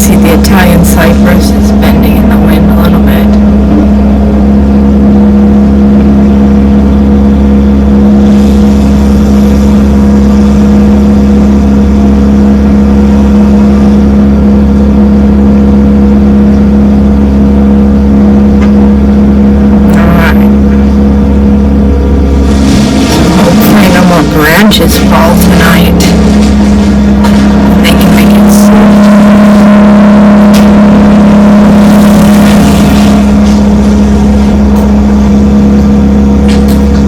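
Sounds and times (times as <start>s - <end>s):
large engine idling: 0.0s - 37.0s.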